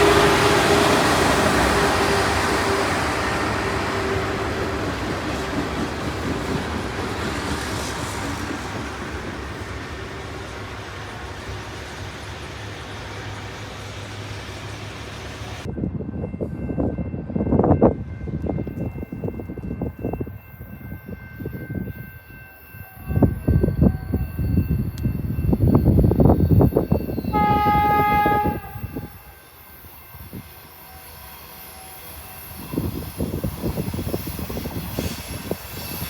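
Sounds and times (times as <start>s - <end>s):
freight train rumbling on rails: 0.0s - 36.0s.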